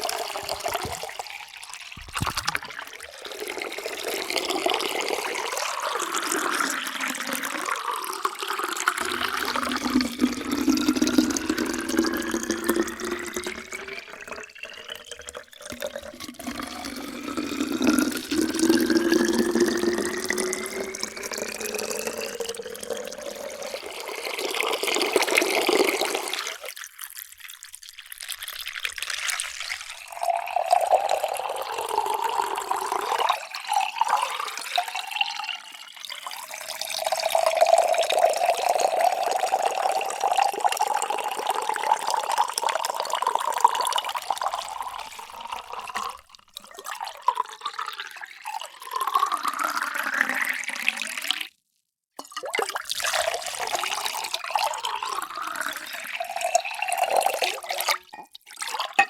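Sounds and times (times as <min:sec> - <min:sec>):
water pouring into a vessel: 0:00.0 - 0:51.6, 0:52.2 - 0:59.0.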